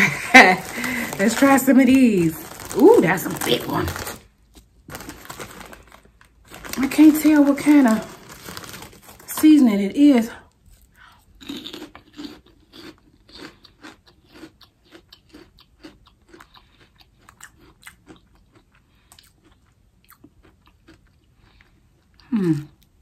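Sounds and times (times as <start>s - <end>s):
pork rind crunching: 0.4s - 9.3s, 11.4s - 21.7s.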